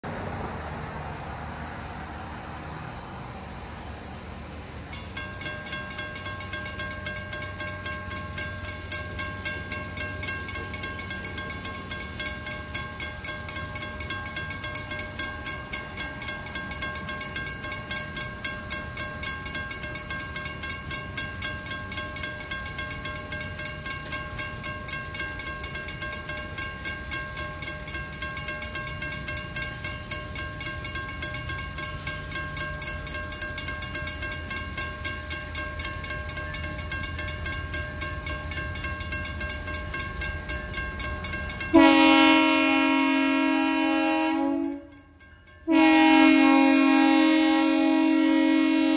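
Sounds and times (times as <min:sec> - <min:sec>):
railroad crossing bell ringing: 0:04.4 - 0:48.9.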